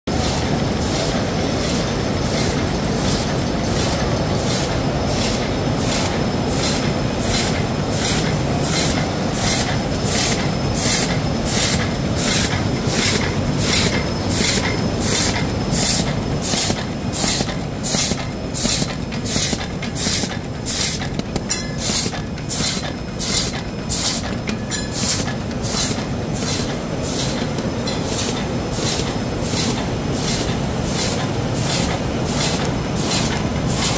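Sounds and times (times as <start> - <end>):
machine clatter and rumble: 0.1 - 33.9.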